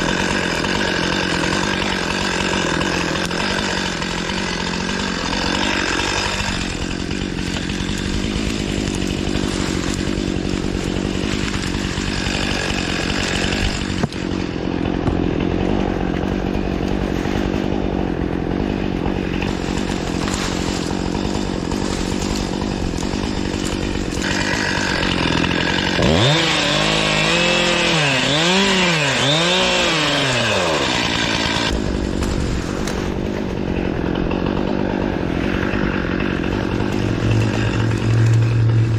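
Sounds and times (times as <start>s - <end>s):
chainsaw running: 0.0s - 38.9s.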